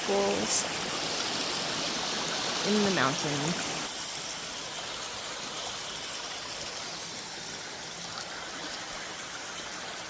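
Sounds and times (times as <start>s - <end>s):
creek water rushing and splashing: 0.0s - 10.0s.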